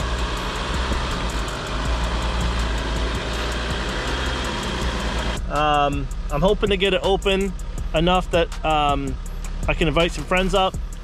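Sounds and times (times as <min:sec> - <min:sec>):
off-road vehicle engine rumble: 0:00.0 - 0:11.0.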